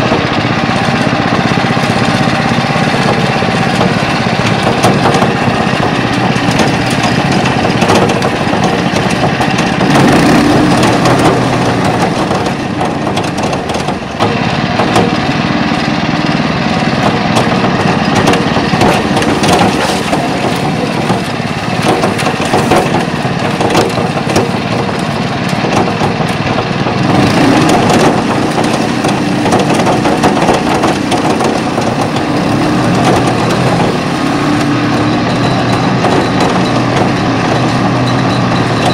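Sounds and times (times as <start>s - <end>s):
machine knocking and rattling: 0.0s - 38.9s
tractor engine running: 0.0s - 38.9s.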